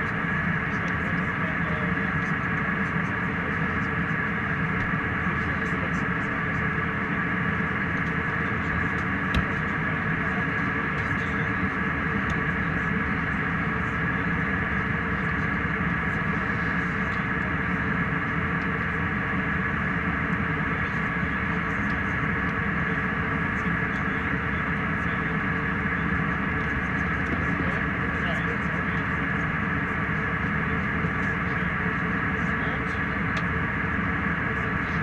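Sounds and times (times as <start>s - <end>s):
airliner cabin hum: 0.0s - 35.0s.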